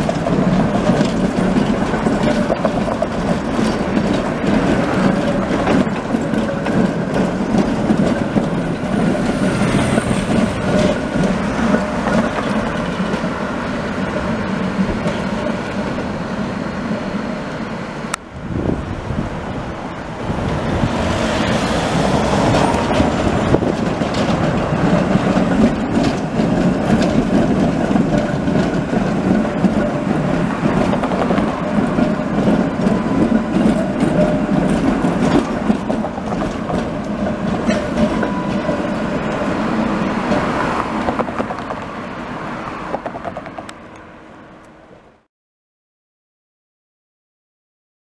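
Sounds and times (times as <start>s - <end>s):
tram wheels clattering over rails: 0.0s - 44.2s.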